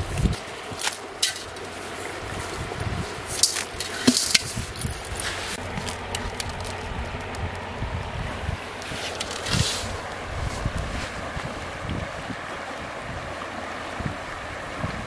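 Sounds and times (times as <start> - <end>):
wind and water: 0.0 - 15.0.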